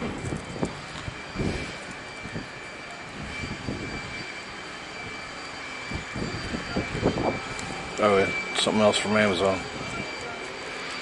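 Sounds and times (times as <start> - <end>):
distant engine drone: 0.0 - 11.0.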